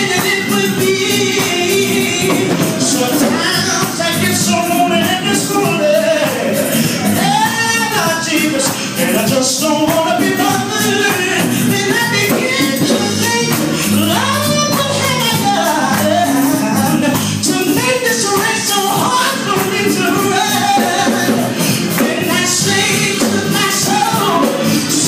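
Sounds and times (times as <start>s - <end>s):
band with steady percussion: 0.0s - 25.0s
person singing into a microphone: 0.0s - 25.0s.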